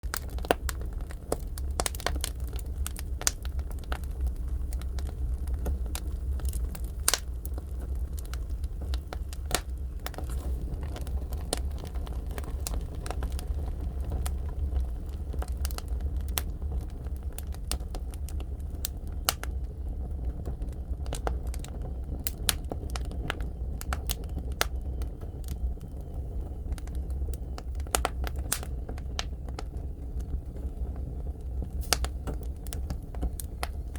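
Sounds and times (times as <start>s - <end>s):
fire low rumble: 0.0s - 33.9s
firewood crackling and popping: 0.0s - 33.9s.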